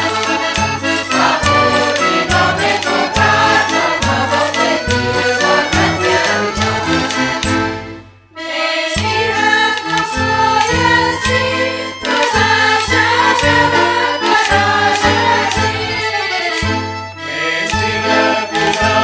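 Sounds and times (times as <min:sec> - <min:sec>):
folk ensemble playing: 0:00.0 - 0:19.0
percussion beat: 0:00.0 - 0:19.0.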